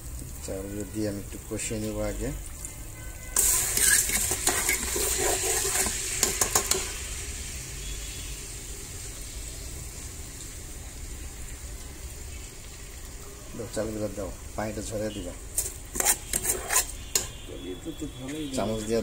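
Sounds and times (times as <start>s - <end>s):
rice sizzling in hot fat: 0.0s - 19.0s.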